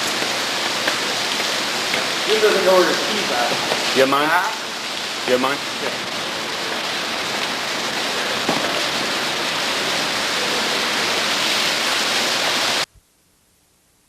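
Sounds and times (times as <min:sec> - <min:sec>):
heavy rain: 0:00.0 - 0:12.9.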